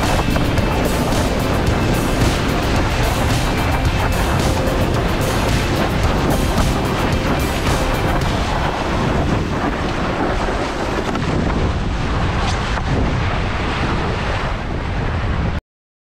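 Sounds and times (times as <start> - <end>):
water rushing and splashing: 0.0 - 15.4
wind buffeting microphone: 0.0 - 15.6.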